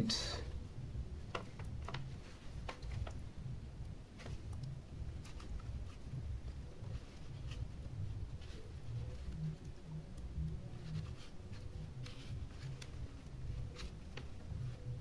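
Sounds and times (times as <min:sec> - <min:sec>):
tape rustling: 0:01.2 - 0:03.4, 0:04.1 - 0:15.0.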